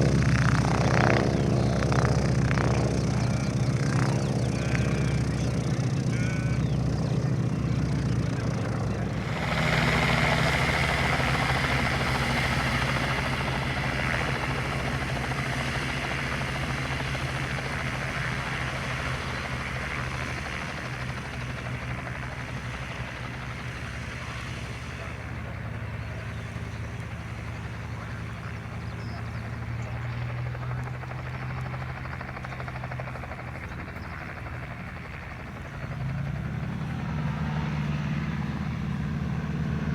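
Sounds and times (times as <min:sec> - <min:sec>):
piston aircraft engine: 0:00.0 - 0:39.9.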